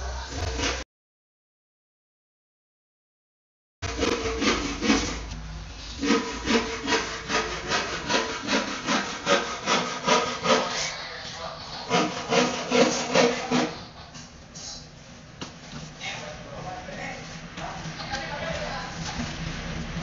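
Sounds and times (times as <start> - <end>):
rhythmic rasping rubbing strokes: 3.8 - 20.0.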